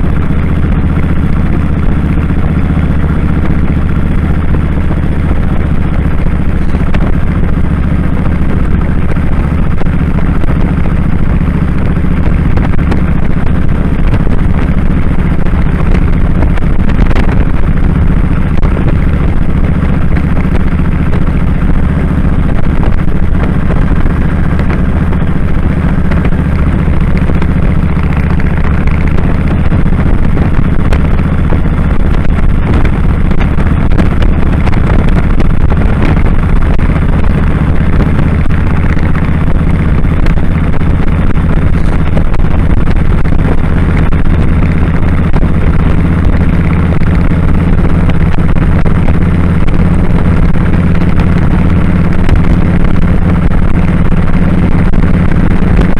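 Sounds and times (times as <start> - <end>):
motorcycle engine running steadily: 0.0 - 55.9.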